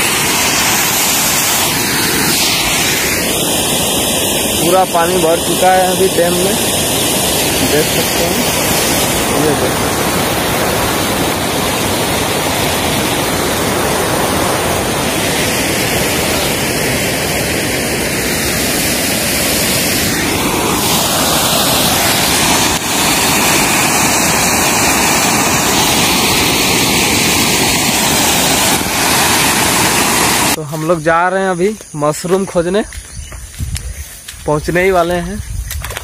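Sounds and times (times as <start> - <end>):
water rushing at a dam: 0.0 - 30.6.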